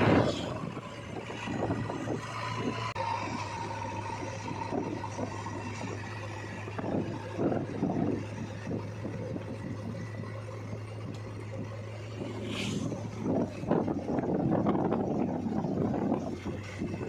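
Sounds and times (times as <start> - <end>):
diesel engine running: 0.0 - 17.0
machinery rumbles and clatter: 0.0 - 17.0.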